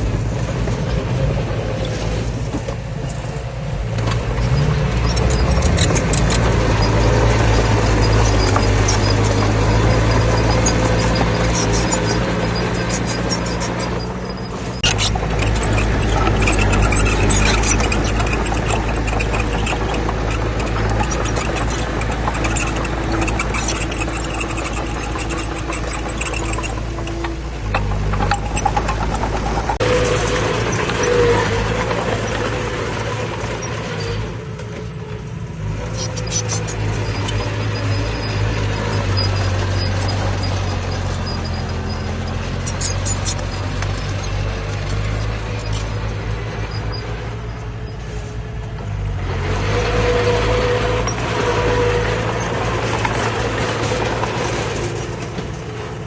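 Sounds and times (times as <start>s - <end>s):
diesel engine running with whine: 0.0s - 56.0s.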